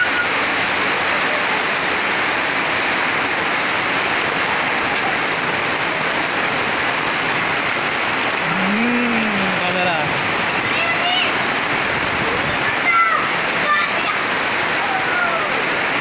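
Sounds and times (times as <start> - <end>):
heavy rain on paving: 0.0 - 16.0
water pouring from roof: 0.0 - 16.0.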